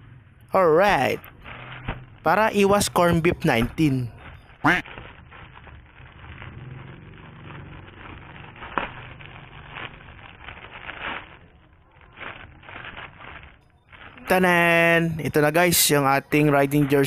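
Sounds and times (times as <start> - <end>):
plastic crinkling and rustling: 0.6 - 17.0.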